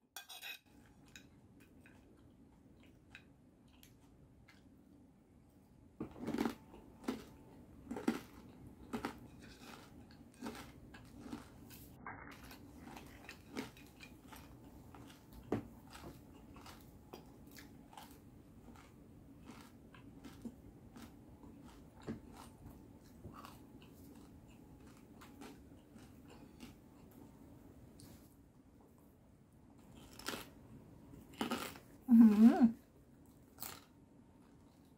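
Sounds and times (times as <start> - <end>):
chewing and crunching food: 0.8 - 5.0, 6.0 - 28.3, 29.8 - 34.9.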